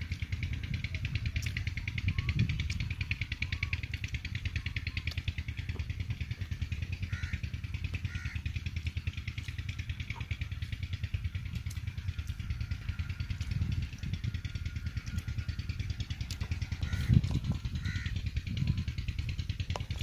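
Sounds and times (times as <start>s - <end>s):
engine running with rapid beat: 0.0s - 20.0s.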